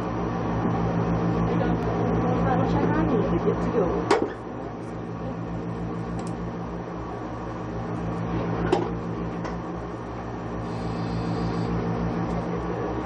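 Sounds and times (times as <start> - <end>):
electrical hum with fan hiss: 0.0 - 13.0.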